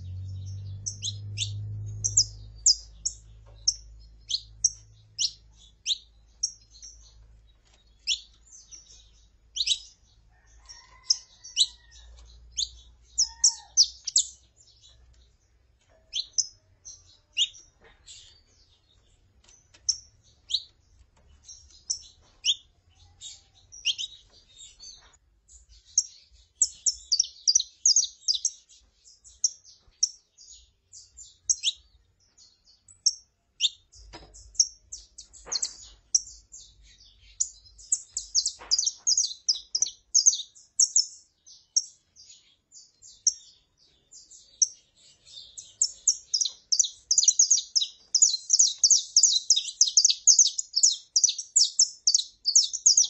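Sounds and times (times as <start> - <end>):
finches chirping and singing: 0.0 - 53.0.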